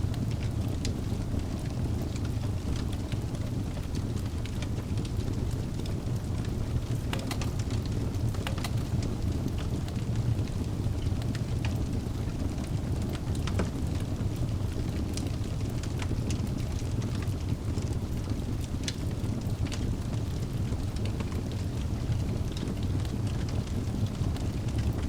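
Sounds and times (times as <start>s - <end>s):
burning logs crackling and popping: 0.0s - 25.0s
fire flames rumbling: 0.0s - 25.0s.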